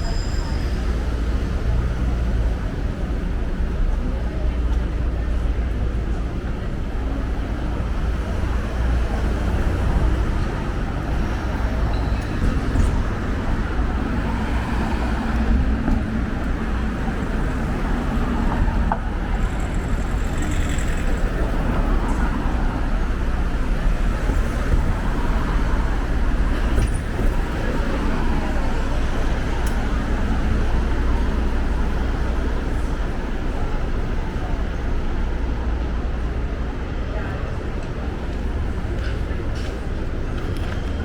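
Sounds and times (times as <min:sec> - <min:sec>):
passing motor vehicles rumble: 0:00.0 - 0:41.0.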